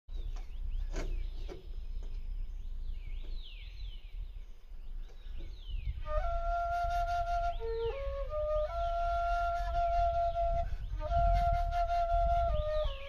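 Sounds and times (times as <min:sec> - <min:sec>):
birds whistling: 0:00.1 - 0:13.0.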